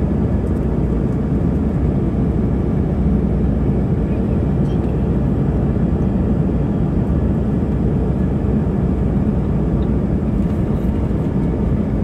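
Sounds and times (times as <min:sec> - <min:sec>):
jet cabin engine drone: 0:00.0 - 0:12.0.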